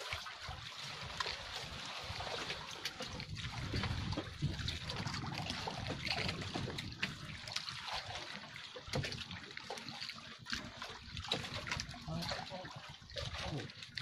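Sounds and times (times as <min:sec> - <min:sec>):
water splashing against boat: 0:00.0 - 0:14.0.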